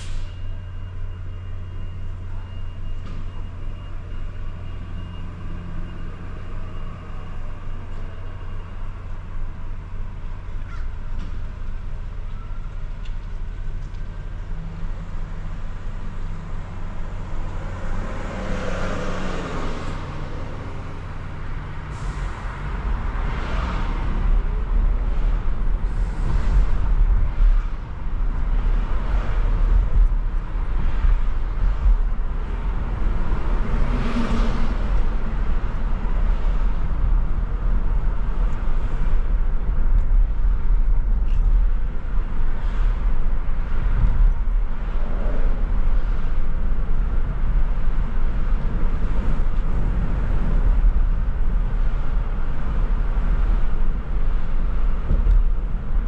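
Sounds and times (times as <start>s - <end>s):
car engine and road rumble: 0.0s - 56.0s
traffic noise: 0.0s - 56.0s.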